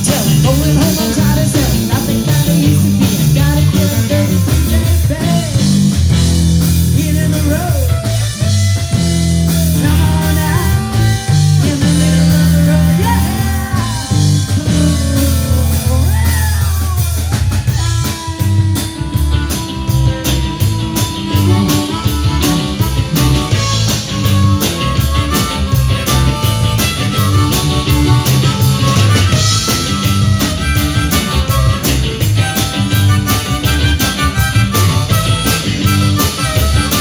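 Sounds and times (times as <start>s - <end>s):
bass guitar: 0.0s - 37.0s
drum kit beat: 0.0s - 37.0s
electric guitar: 0.0s - 37.0s.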